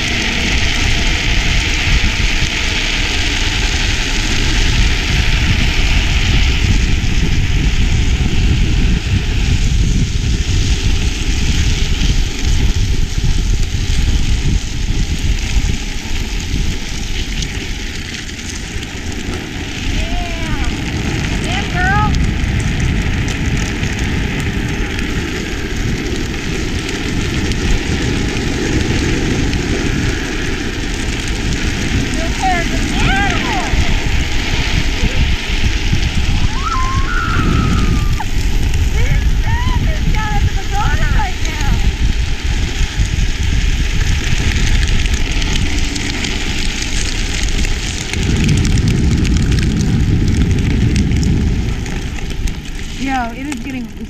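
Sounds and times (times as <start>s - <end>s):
plastic wheels sliding on asphalt: 0.0s - 54.0s
wind rushing over microphone: 0.0s - 54.0s.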